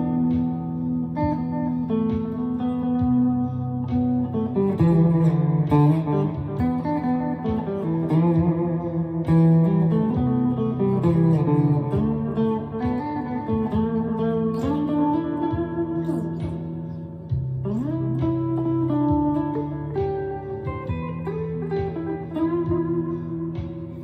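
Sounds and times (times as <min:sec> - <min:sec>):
ambient electric guitar: 0:00.0 - 0:24.0.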